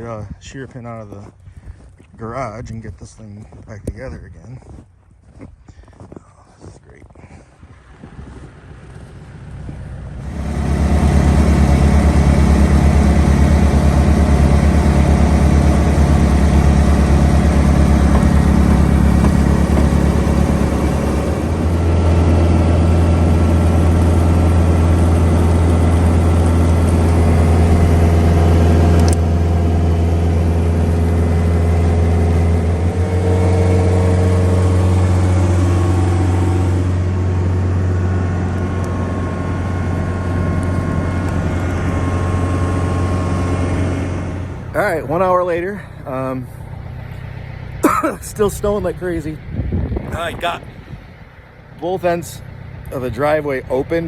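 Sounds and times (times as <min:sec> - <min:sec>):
tractor engine running: 0:07.8 - 0:54.0.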